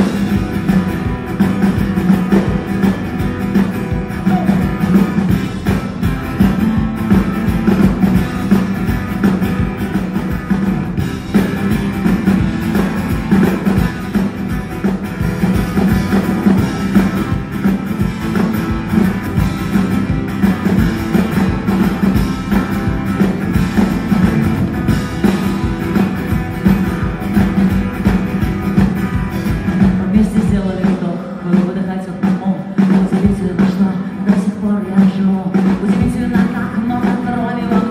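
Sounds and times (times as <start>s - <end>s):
live acoustic guitar music: 0.0s - 37.9s.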